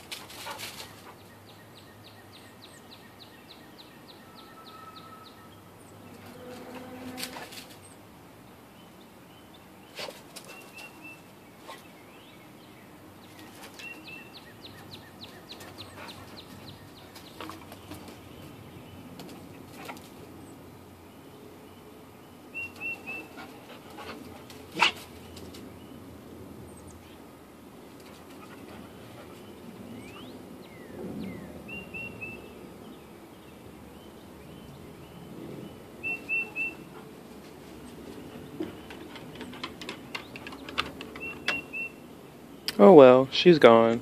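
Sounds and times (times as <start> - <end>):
bird chirping: 0.4 - 27.3, 28.0 - 42.8.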